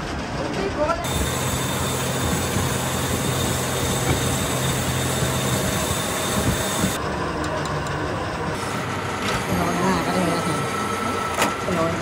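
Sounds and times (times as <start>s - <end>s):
workshop machinery humming: 0.1s - 12.0s.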